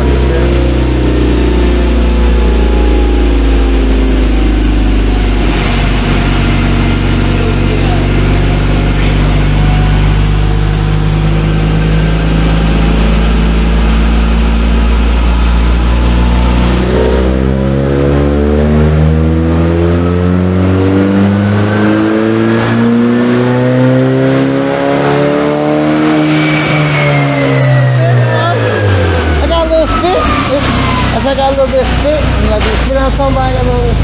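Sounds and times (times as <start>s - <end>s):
car engine revving on dyno: 0.0s - 34.0s.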